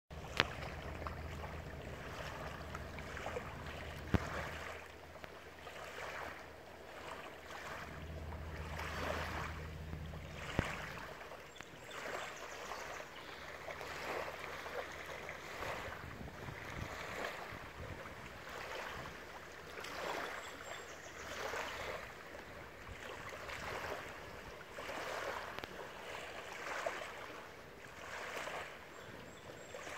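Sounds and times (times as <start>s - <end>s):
low steady hum: 0.1s - 28.0s
waves lapping against a dock: 0.1s - 29.9s.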